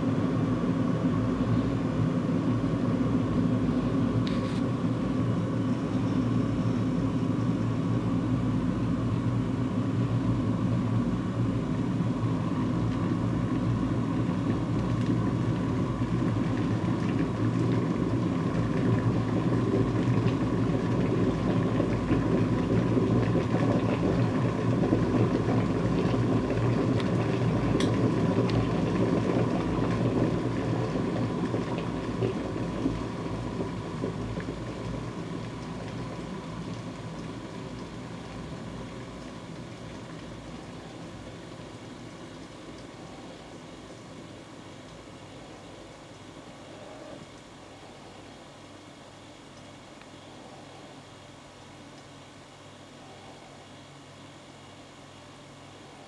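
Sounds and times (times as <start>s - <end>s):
kettle water bubbling: 0.0s - 56.0s.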